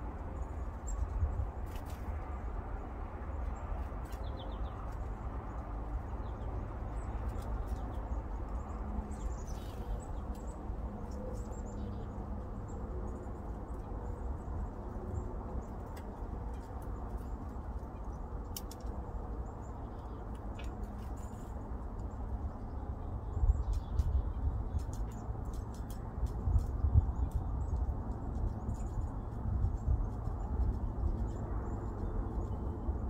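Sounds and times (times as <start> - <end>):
low outdoor rumble: 0.0 - 33.0
small birds chirping: 0.0 - 33.0.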